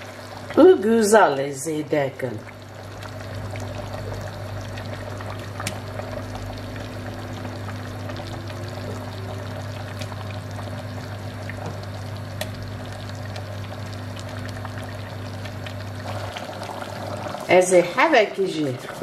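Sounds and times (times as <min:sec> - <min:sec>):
sauce bubbling in pot: 0:00.0 - 0:19.0
steady low hum: 0:00.0 - 0:19.0.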